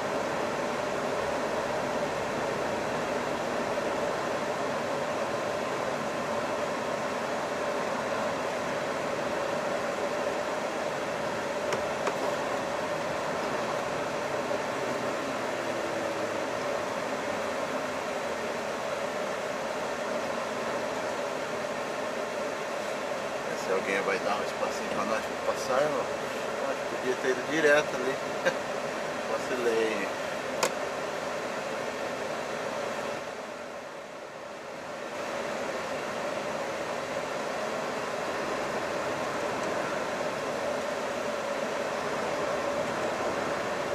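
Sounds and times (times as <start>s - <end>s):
truck cab running hum: 0.0s - 43.9s.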